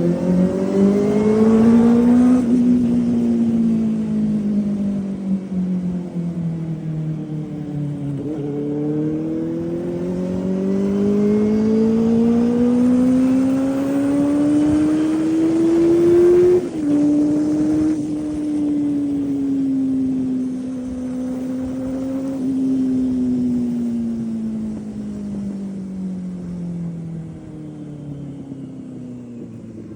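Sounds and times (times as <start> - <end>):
motorcycle engine: 0.0 - 29.9.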